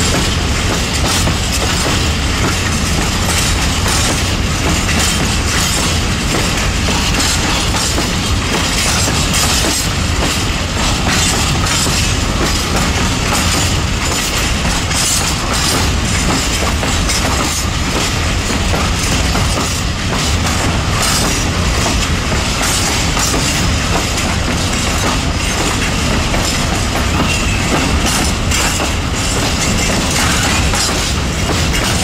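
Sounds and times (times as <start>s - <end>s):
freight train rumbling: 0.0s - 32.0s
wheels clacking over rail joints: 0.0s - 32.0s.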